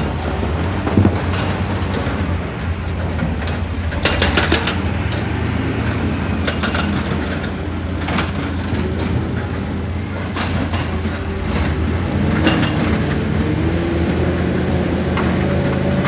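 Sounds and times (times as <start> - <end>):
rock and metal clanks and scrapes: 0.0 - 13.9
excavator diesel engine running: 0.0 - 16.0.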